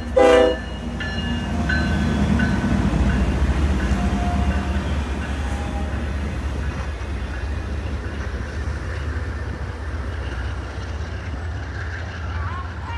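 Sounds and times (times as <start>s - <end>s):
train rolling past: 0.0s - 12.9s.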